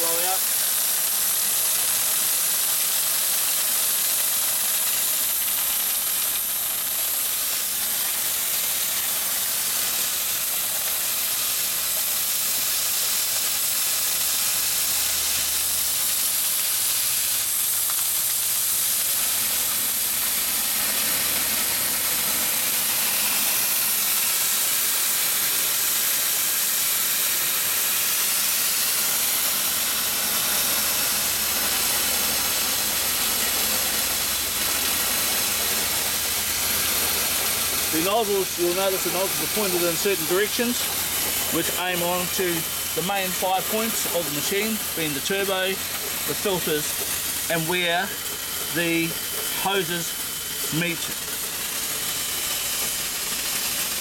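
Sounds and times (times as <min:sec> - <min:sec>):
hiss of pressurized foam spray: 0:00.0 - 0:54.0.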